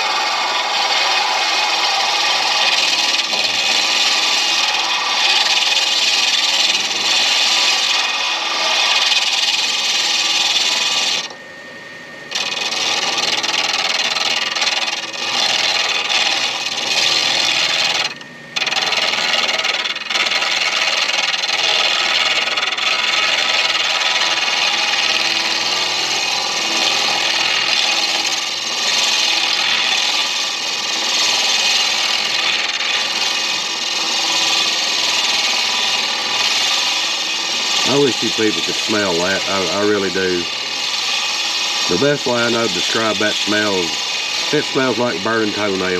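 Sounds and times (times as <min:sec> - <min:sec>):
lathe turning tool scraping: 0:00.0 - 0:11.4, 0:12.3 - 0:45.9.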